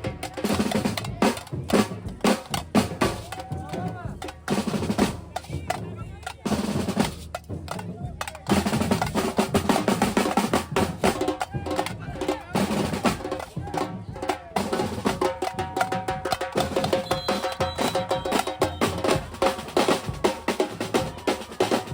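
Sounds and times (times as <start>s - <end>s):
samba drum group playing: 0.0s - 21.9s.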